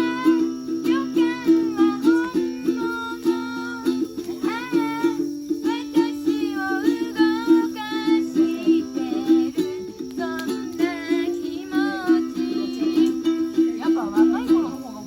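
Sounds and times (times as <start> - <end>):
person singing: 0.0 - 14.7
ukulele strumming: 0.0 - 15.0.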